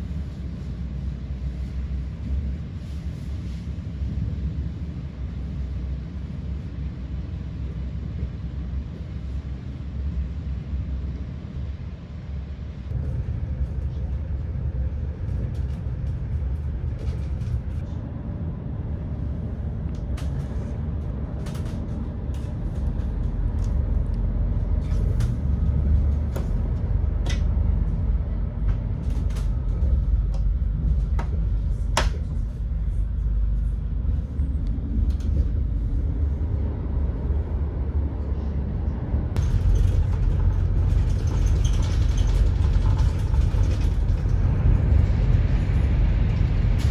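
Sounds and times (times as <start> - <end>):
train cabin low rumble: 0.0 - 46.9.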